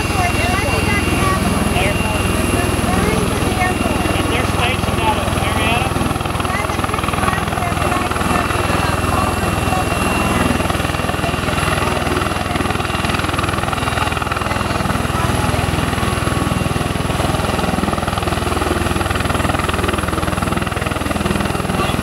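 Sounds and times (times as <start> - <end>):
aircraft rotor drone pulsing: 0.0 - 22.0.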